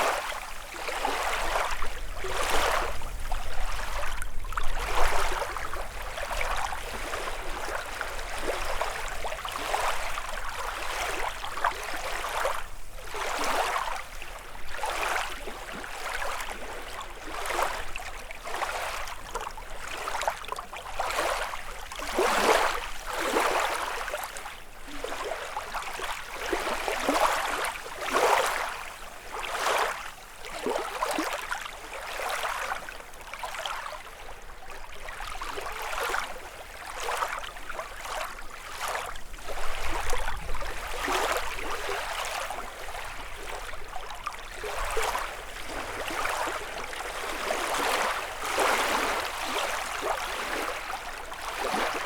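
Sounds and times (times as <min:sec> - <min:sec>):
waves lapping on shore: 0:00.0 - 0:52.0.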